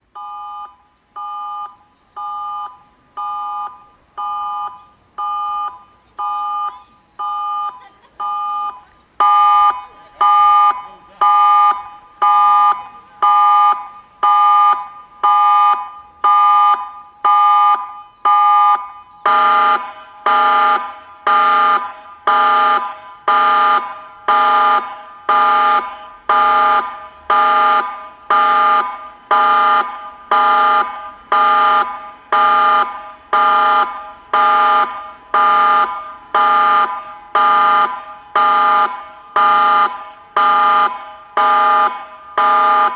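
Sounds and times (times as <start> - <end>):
emergency alert alarm beeping: 0.0 - 42.9.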